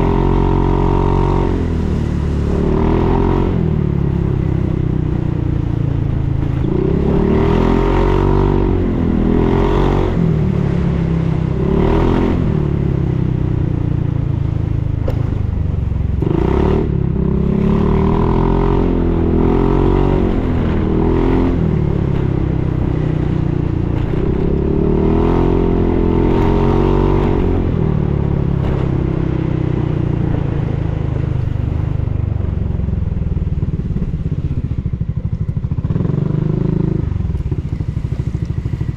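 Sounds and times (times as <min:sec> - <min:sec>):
scooter engine revving and idling: 0:00.0 - 0:14.3, 0:14.9 - 0:38.9.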